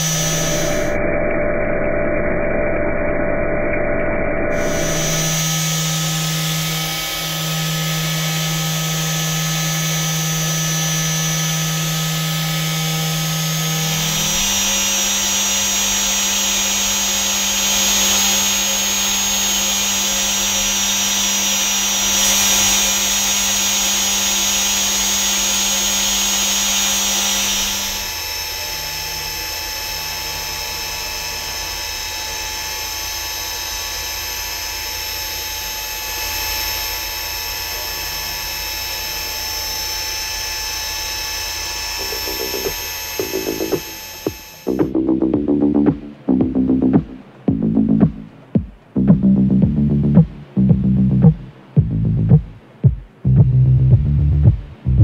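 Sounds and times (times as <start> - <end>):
machine spindle hum and whine: 0.0 - 51.8.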